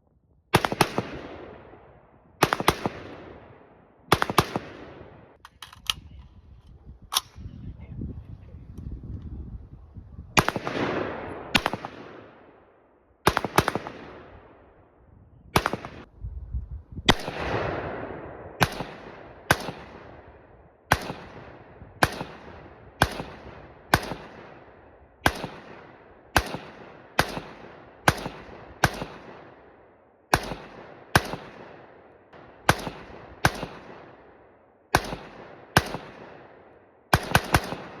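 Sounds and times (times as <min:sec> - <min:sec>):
rifle shots with echo: 0:00.5 - 0:05.8, 0:10.4 - 0:16.1, 0:17.1 - 0:38.0.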